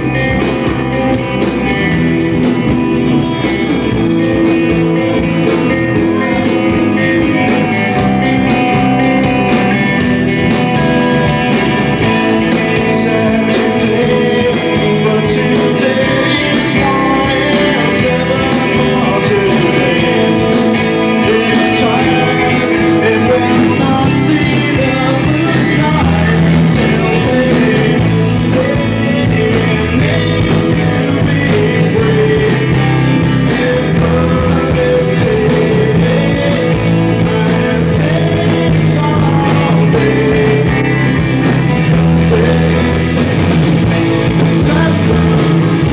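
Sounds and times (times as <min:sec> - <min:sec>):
bass guitar: 0:00.0 - 0:45.9
electric guitars: 0:00.0 - 0:45.9
man singing: 0:00.0 - 0:45.9.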